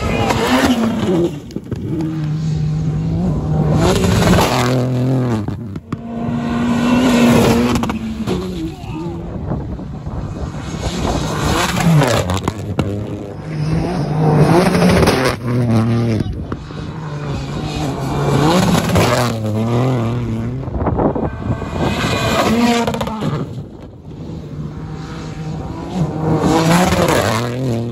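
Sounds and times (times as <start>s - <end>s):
rally car engines revving: 0.0s - 27.9s.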